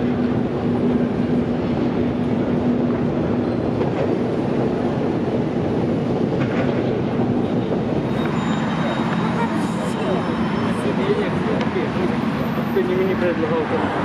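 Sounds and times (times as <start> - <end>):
station concourse drone: 0.0 - 14.0.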